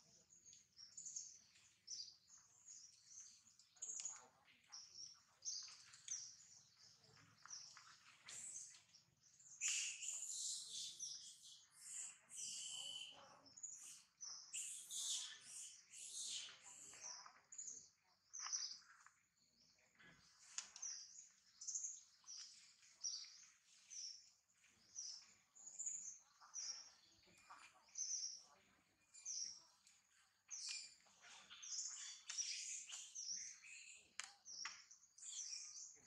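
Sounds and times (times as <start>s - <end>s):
bird chirping: 0.0s - 36.0s
faint birdsong: 0.0s - 36.0s.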